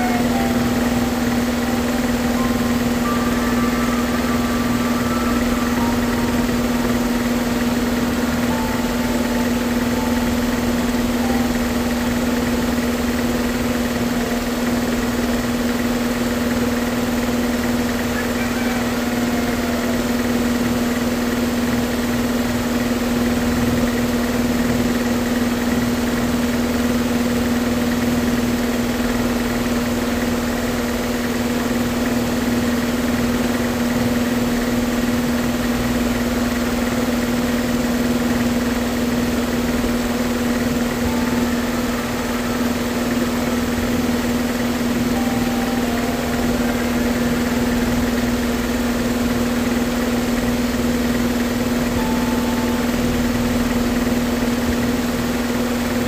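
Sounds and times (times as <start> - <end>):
machine humming: 0.0 - 56.0.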